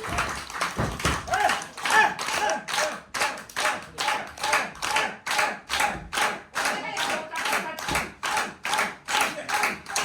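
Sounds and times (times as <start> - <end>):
audience clapping in rhythm: 0.0 - 10.0.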